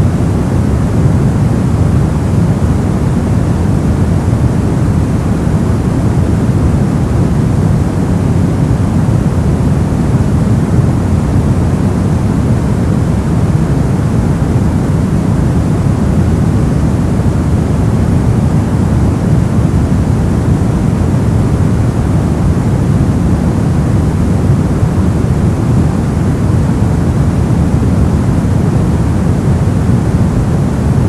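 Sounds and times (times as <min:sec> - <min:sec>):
brown noise hiss: 0:00.0 - 0:31.0.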